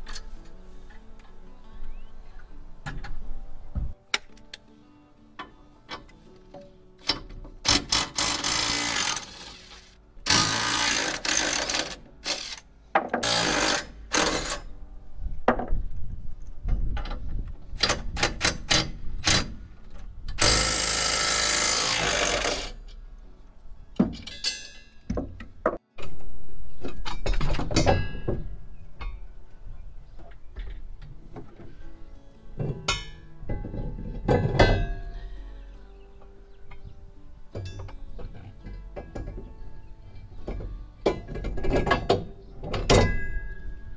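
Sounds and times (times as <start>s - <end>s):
background music: 0.0s - 43.9s.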